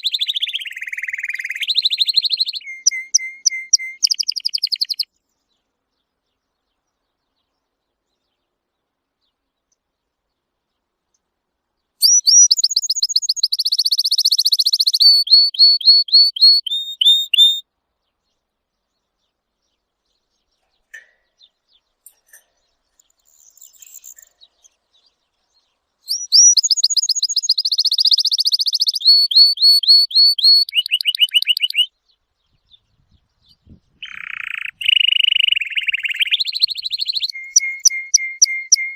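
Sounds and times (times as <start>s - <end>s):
faint bird chirps: 0.0s - 11.2s, 11.8s - 38.9s
songbird trilling song: 0.0s - 38.9s.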